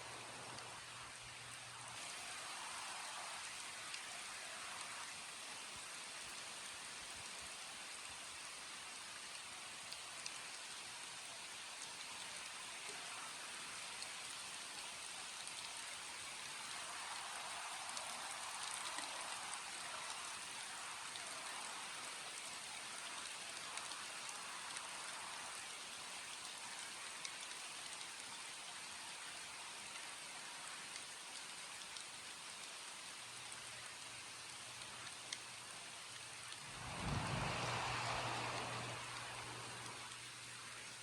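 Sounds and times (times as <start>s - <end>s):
rain falling: 0.0s - 41.0s
raindrop ticks: 2.0s - 41.0s.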